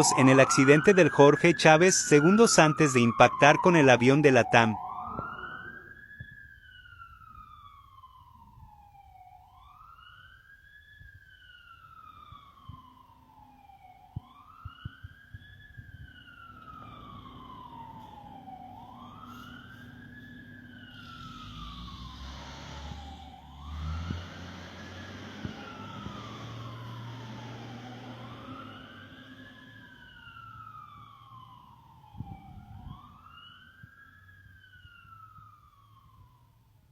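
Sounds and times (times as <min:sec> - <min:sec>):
fire truck siren wailing: 0:00.0 - 0:36.7.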